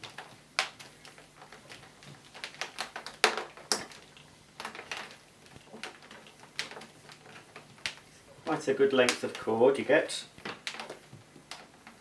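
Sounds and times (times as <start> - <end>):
cord clicking against plastic: 0.0 - 9.5, 10.4 - 12.0.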